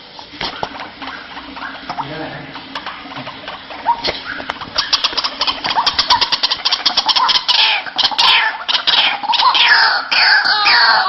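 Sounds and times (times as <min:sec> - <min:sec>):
waterhen harsh calls: 0:00.4 - 0:11.0
waterhen clicking notes: 0:00.6 - 0:10.0.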